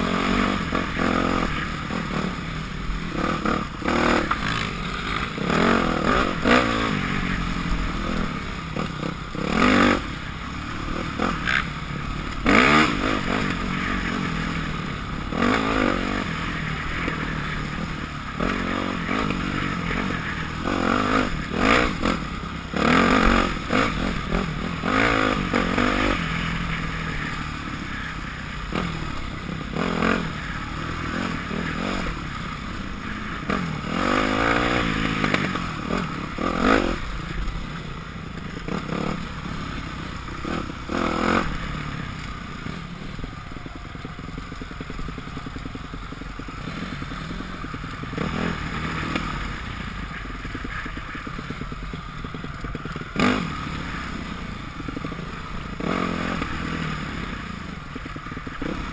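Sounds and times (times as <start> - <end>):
dirt bike engine revving: 0.0 - 58.9
bike rattling over rough ground: 3.0 - 58.9.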